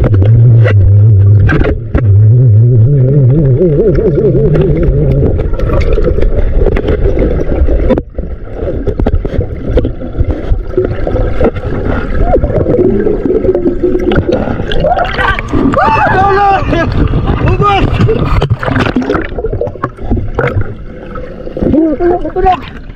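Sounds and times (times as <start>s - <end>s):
low underwater rumble: 0.0s - 22.9s
water gurgling: 0.0s - 22.9s.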